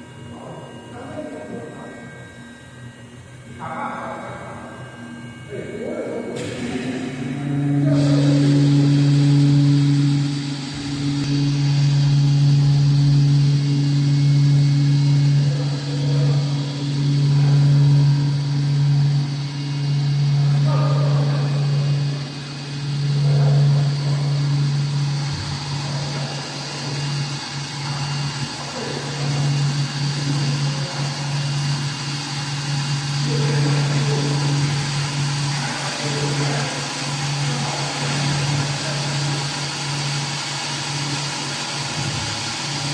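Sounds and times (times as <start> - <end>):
machinery running with low hum: 0.0 - 42.9.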